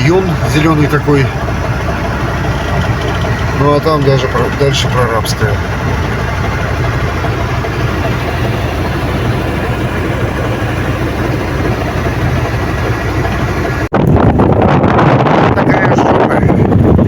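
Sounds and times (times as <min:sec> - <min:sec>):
diesel engine idling hum: 0:00.0 - 0:17.0.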